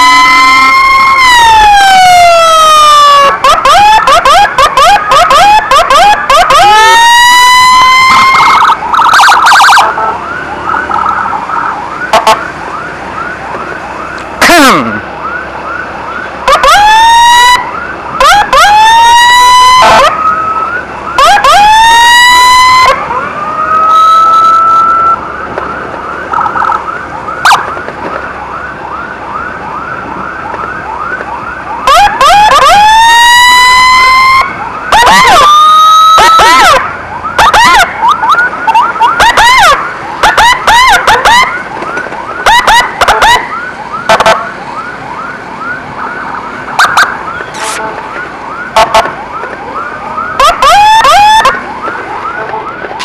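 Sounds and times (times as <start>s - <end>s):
fast yelping siren: 0.0s - 25.3s, 26.2s - 27.8s, 28.4s - 47.8s, 48.5s - 53.0s
whooping emergency siren: 0.0s - 53.0s.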